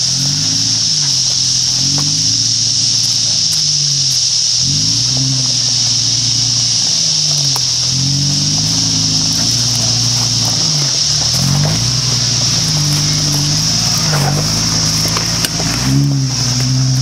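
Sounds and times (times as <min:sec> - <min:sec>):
engine revving: 0:00.0 - 0:17.0
high hiss: 0:00.0 - 0:17.0.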